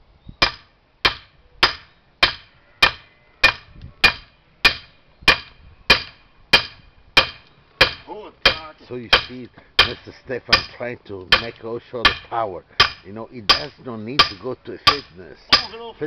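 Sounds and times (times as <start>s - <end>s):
hammer striking metal: 0.4s - 10.7s, 11.3s - 15.8s.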